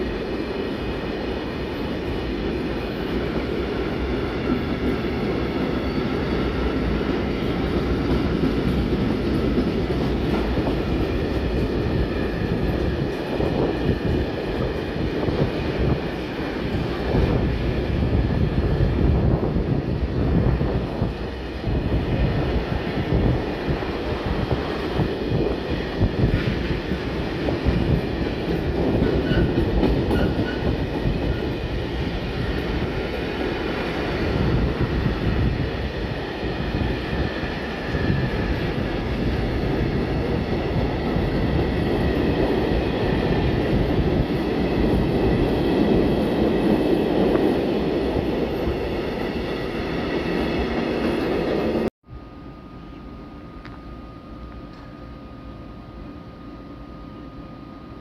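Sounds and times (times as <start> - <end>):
steel wheels rumbling on rails: 0.0 - 51.9.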